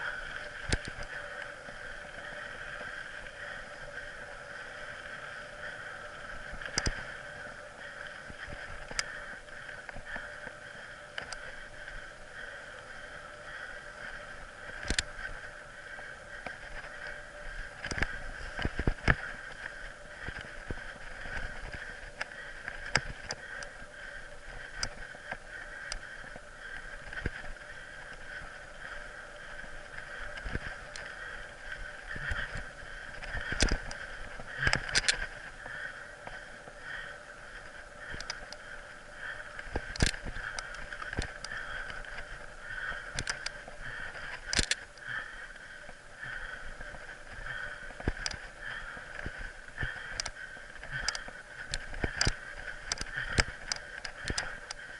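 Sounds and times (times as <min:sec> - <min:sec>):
steady high whine: 0:00.0 - 0:54.9.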